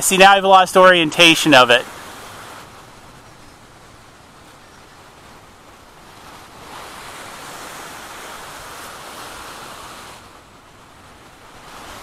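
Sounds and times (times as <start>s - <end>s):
surf washing on shore: 0.0s - 12.0s.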